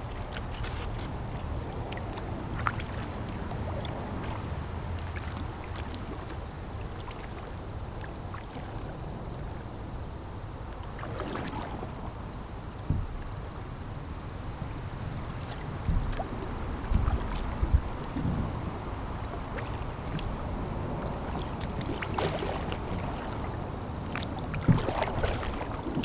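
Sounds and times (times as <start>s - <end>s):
paddle splashing in water: 0.0s - 9.6s, 10.8s - 13.1s, 15.3s - 26.0s
low steady rumble: 0.0s - 26.0s.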